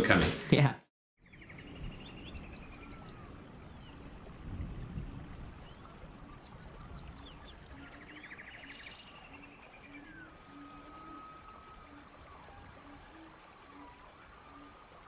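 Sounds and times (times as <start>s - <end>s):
birds singing trills: 1.2s - 15.0s
quiet music of low notes: 1.2s - 15.0s.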